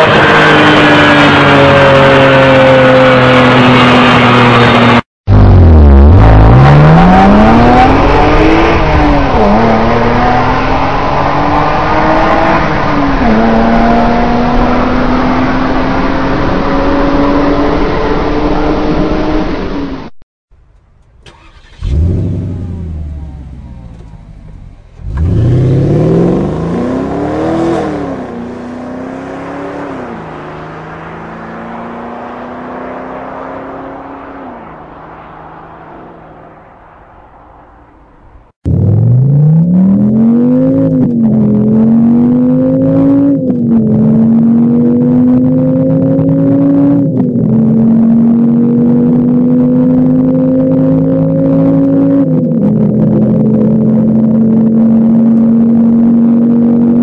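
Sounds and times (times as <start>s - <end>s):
car engine accelerating through gears: 0.0s - 20.1s, 21.3s - 38.0s, 38.6s - 57.0s.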